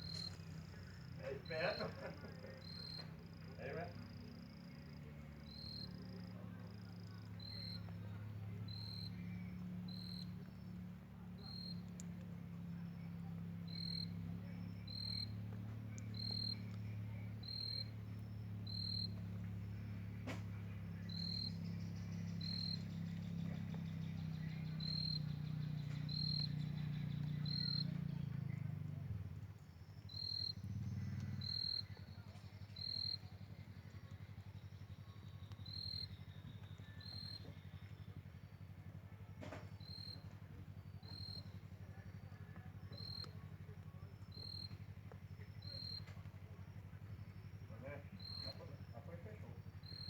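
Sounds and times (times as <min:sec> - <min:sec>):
insect chirping: 0:00.0 - 0:29.0, 0:29.6 - 0:39.0, 0:39.6 - 0:50.0
steady low hum: 0:00.0 - 0:50.0.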